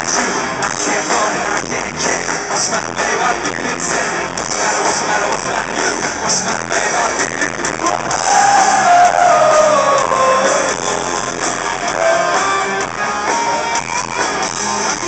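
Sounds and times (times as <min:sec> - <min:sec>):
bass guitar: 0:00.0 - 0:15.0
drums: 0:00.0 - 0:15.0
electric guitars: 0:00.0 - 0:15.0.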